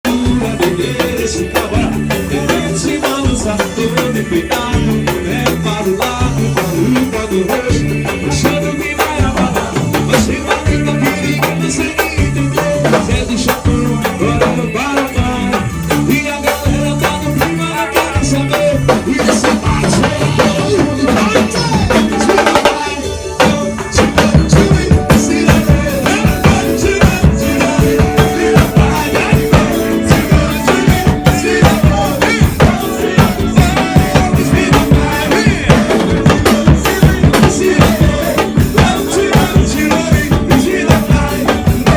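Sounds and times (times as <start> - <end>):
stepping bass line: 0.0 - 22.8, 23.4 - 41.9
heavy drum beat: 0.0 - 41.9.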